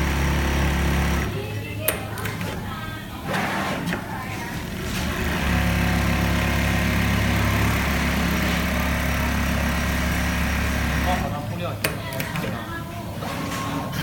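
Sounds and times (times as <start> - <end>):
sewing machine motor hum: 0.0 - 12.8.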